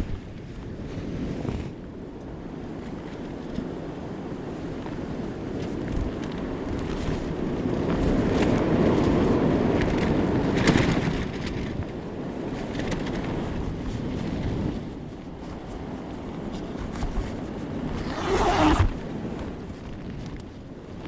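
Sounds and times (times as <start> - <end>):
wind gusting against microphone: 0.0 - 21.0.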